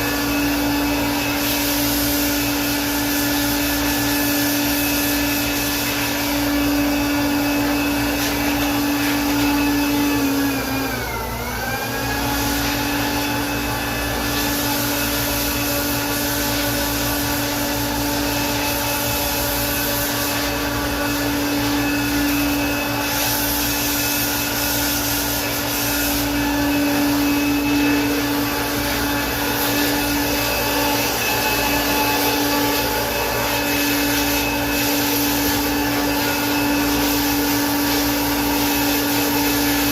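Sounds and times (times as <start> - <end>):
electric air blower whining: 0.0 - 39.9.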